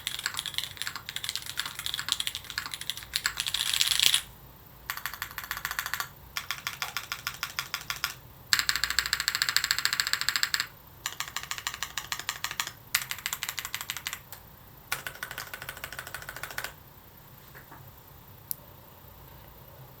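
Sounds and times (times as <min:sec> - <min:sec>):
mechanical keyboard typing: 0:00.0 - 0:04.3, 0:04.9 - 0:16.8.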